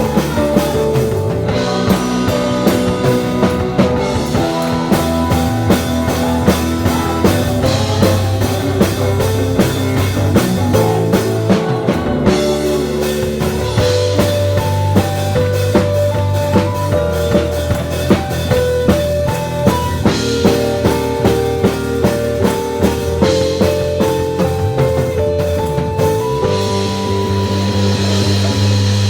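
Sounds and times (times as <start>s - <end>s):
band playing instrumental music: 0.0s - 29.0s
drum kit beat: 0.0s - 29.0s.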